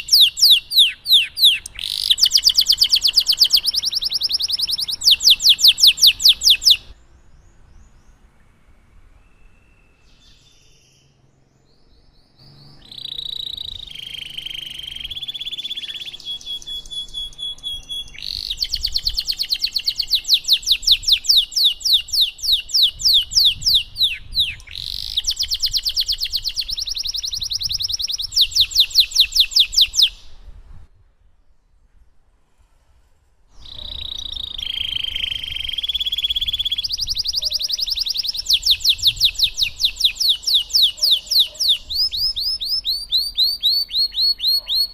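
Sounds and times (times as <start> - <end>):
canary singing trills: 0.0 - 30.5, 33.6 - 44.9.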